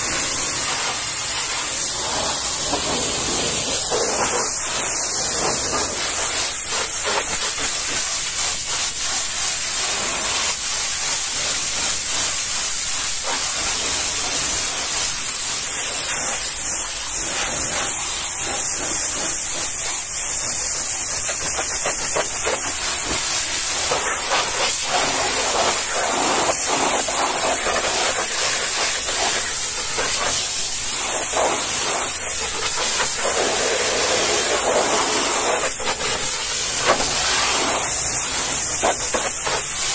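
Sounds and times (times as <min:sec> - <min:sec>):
pressure washer jet hissing: 0:00.0 - 0:39.9.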